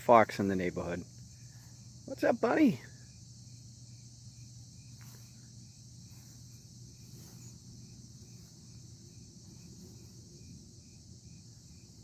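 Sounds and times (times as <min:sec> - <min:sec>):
cricket chirping: 0:00.0 - 0:12.0
faint low hum: 0:00.0 - 0:12.0
high-pitched insect trill: 0:00.0 - 0:12.0.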